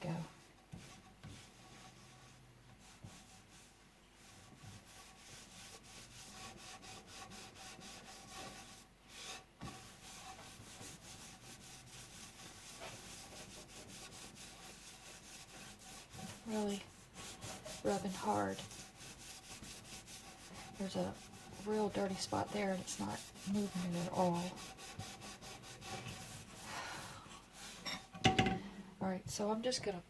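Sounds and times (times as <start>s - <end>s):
cloth scrubbing glass: 0.0s - 28.0s.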